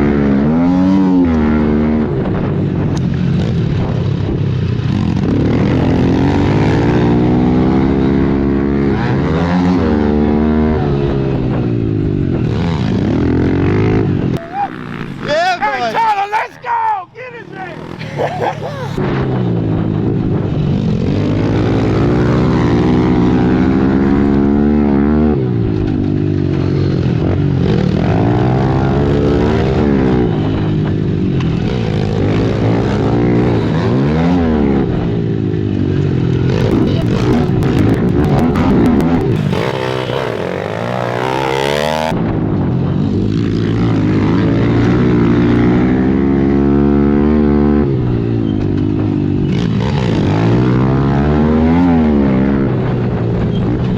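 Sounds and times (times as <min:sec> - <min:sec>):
pit bike engines revving: 0:04.9 - 0:08.4, 0:09.1 - 0:19.0, 0:21.4 - 0:42.2, 0:44.3 - 0:53.7.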